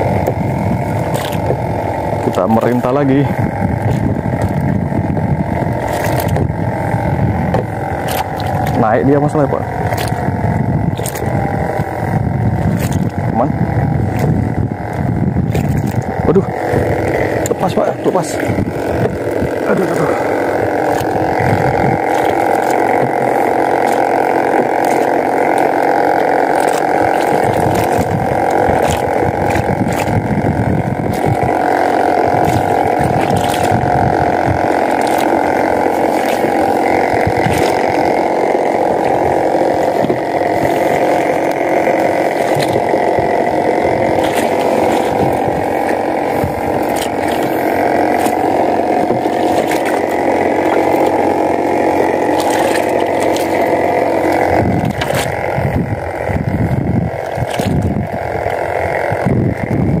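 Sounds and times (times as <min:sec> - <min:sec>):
small outboard engine running: 0:00.0 - 1:00.0.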